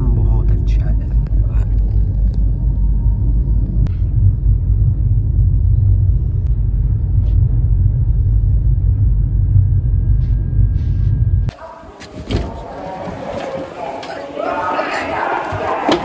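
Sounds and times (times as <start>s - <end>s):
train rumble inside coach: 0.0s - 16.0s.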